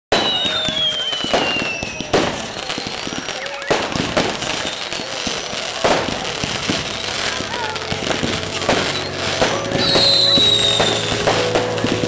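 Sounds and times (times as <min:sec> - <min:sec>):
falling firework whistle: 0:00.1 - 0:12.0
fireworks bangs: 0:00.1 - 0:12.0
fireworks crackling: 0:00.1 - 0:12.0.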